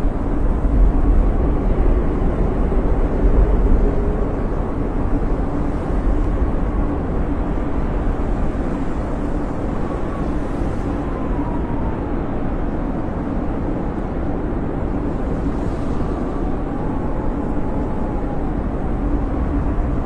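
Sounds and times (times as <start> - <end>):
blizzard wind rumbling: 0.0 - 20.0
faint wind whistle: 0.0 - 20.0.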